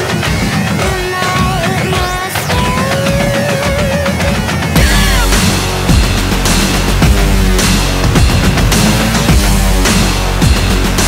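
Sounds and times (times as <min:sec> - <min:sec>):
aggressive music with heavy beat: 0:00.0 - 0:11.0.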